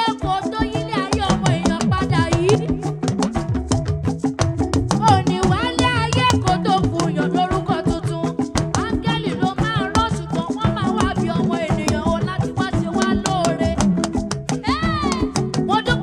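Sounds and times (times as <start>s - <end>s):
gospel band playing: 0.0s - 16.0s.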